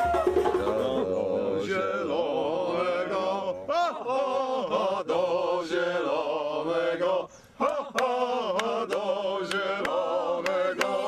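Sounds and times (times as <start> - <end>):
person chant-like singing: 0.1 - 11.0.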